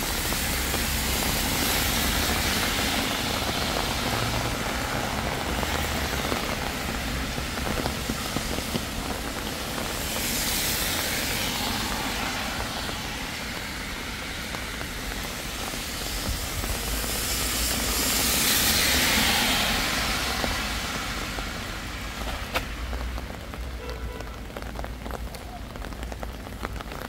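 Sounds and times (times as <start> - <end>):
sharp raindrop taps: 0.0 - 17.8, 20.3 - 27.0
steady rain: 0.0 - 27.0
tyres hissing on wet road: 0.0 - 27.0.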